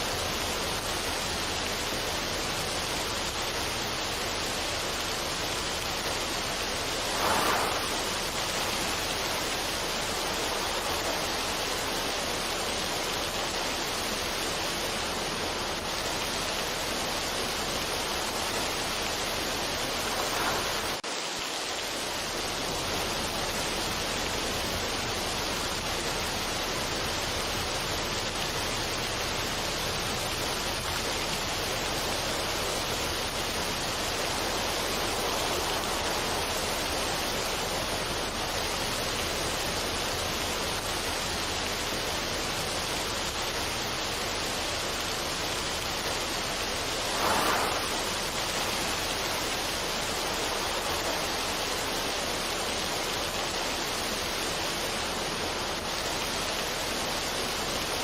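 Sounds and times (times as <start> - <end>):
steady rushing water: 0.0 - 58.0.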